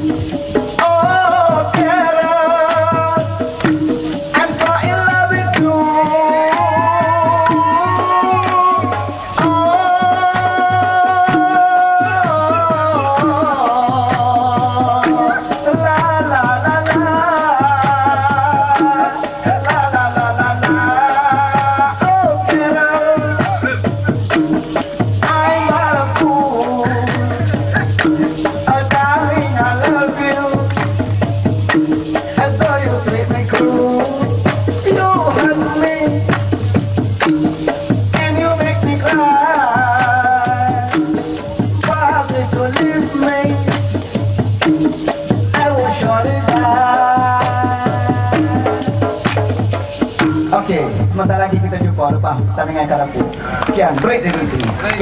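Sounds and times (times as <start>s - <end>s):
man singing: 0.0s - 49.6s
live band music: 0.0s - 52.2s
drum beat: 0.0s - 55.0s
maraca shaking: 0.0s - 55.0s.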